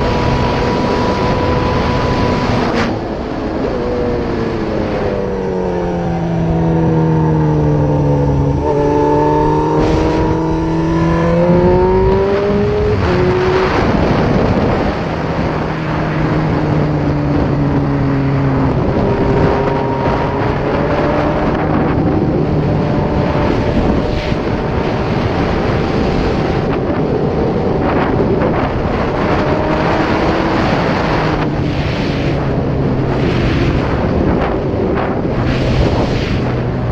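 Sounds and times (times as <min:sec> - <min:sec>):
motorcycle engine revving: 0:00.0 - 0:36.9
wind rushing over microphone: 0:00.0 - 0:36.9.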